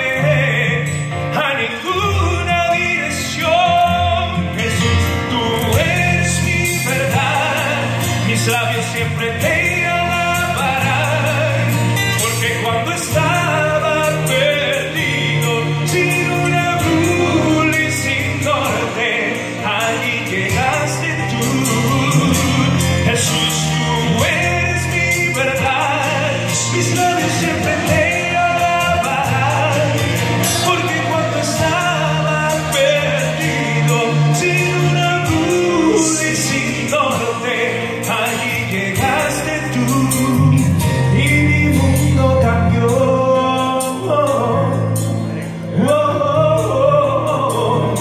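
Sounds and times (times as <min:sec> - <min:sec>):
instrumental accompaniment: 0:00.0 - 0:48.0
man singing into microphone: 0:00.0 - 0:48.0
steady bass line: 0:00.0 - 0:48.0.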